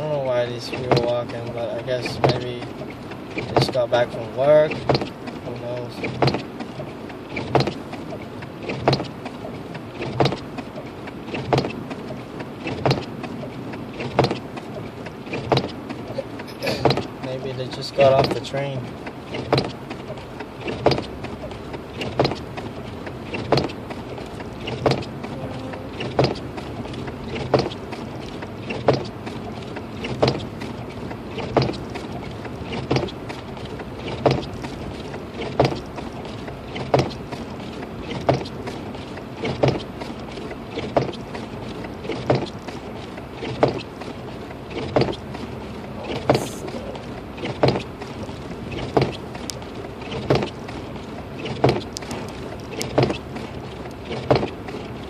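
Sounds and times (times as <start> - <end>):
car driving hum: 0.0 - 55.0
windshield wipers sweeping: 0.0 - 55.0
wiper knocking: 0.0 - 55.0.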